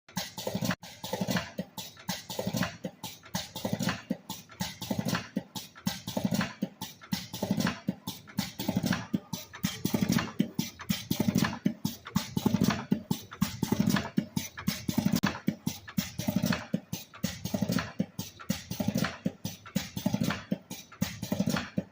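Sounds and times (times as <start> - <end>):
machine clattering clicks: 0.1 - 21.9.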